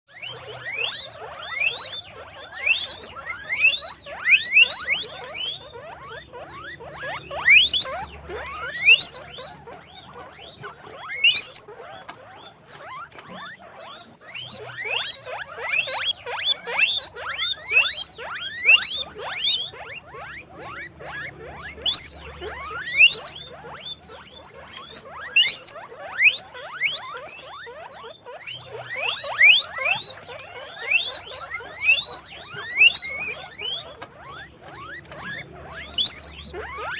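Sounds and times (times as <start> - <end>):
guinea pigs squeaking: 0.1 - 36.9.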